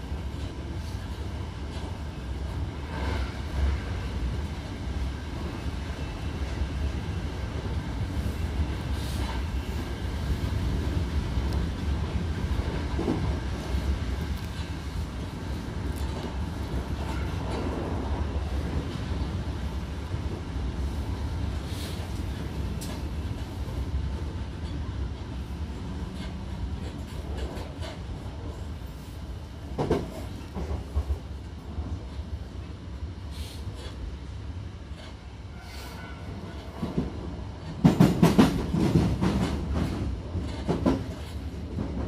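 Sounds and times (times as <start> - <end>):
train interior rumble: 0.0 - 42.0.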